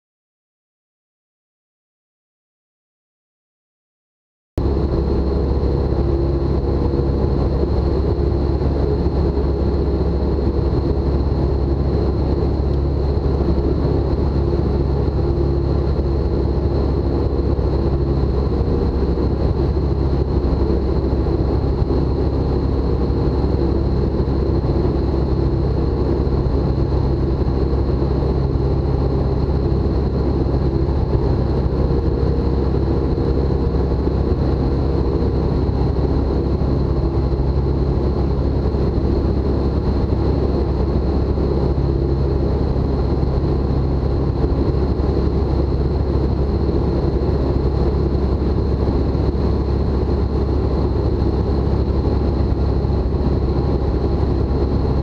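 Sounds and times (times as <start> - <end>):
light aircraft engine and propeller: 4.6 - 55.0.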